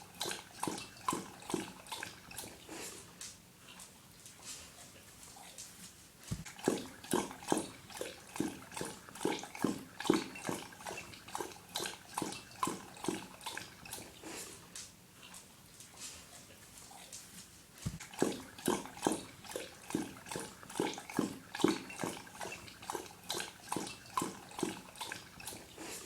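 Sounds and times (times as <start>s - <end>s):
dog lapping water: 0.0s - 5.2s, 6.2s - 16.8s, 17.7s - 26.0s.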